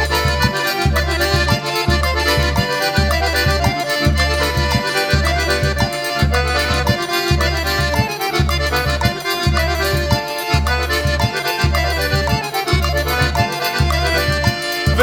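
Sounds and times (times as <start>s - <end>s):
accordion playing lively melody: 0.0s - 15.0s
pulsing bass beat: 0.0s - 15.0s.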